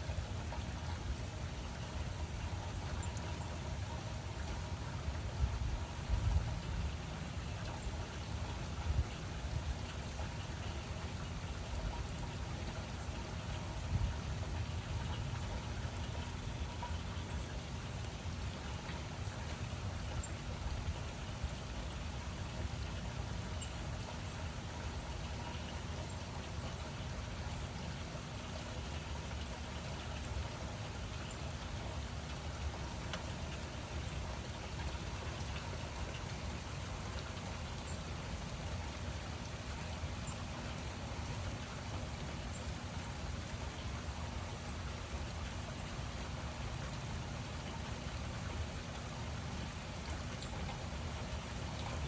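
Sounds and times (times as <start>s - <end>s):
drip ticks: 0.0s - 52.0s
steady rain hiss: 0.0s - 52.0s.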